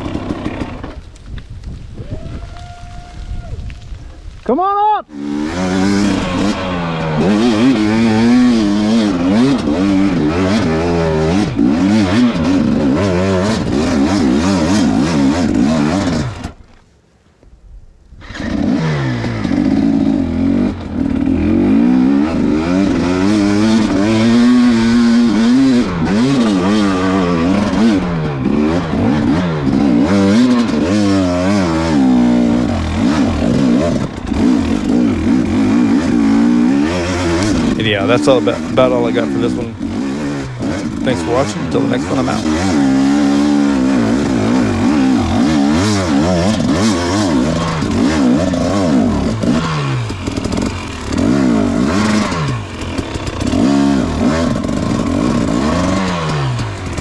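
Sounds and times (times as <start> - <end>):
dirt bike engine revving: 0.0 - 1.0, 5.0 - 16.6, 18.2 - 57.0.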